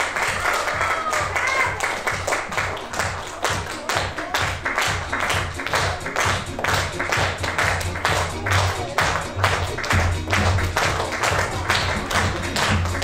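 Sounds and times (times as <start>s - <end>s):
audience clapping in rhythm: 0.0s - 13.0s
background music: 0.0s - 13.0s.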